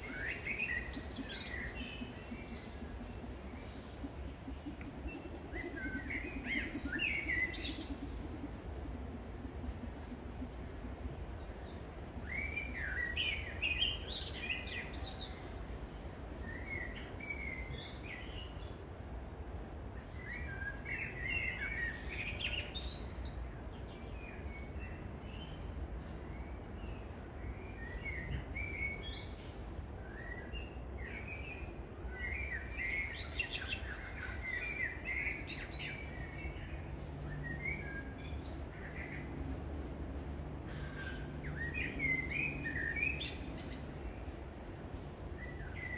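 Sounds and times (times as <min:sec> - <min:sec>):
birds chirping: 0:00.0 - 0:45.9
low steady rumble: 0:00.0 - 0:45.9.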